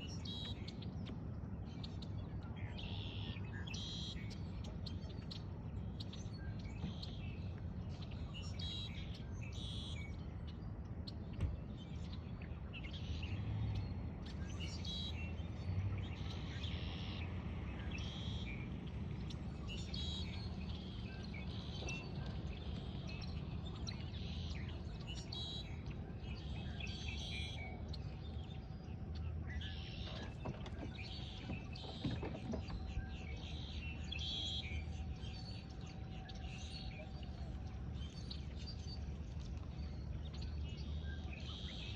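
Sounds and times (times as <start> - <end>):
birds calling and singing: 0.0 - 41.9.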